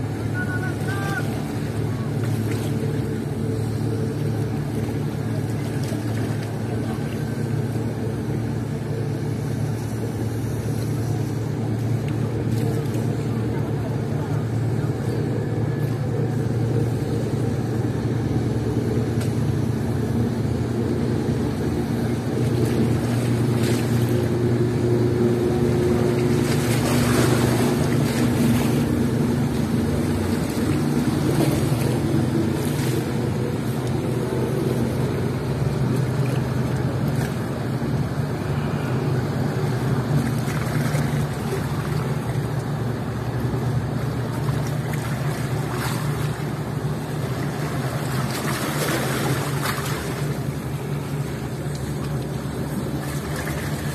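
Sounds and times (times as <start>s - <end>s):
ferry engines droning: 0.0s - 53.9s.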